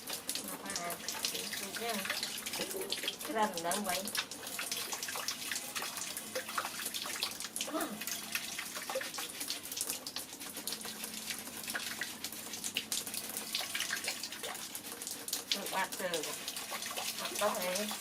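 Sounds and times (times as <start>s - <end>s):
tap water running and splashing: 0.0s - 18.0s.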